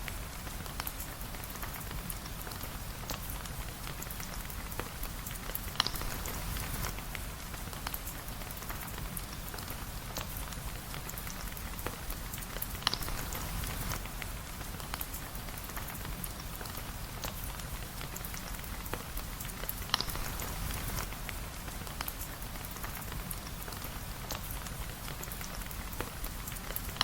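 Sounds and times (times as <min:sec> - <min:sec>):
steady rain: 0:00.0 - 0:27.0
small drip ticks: 0:00.1 - 0:27.0.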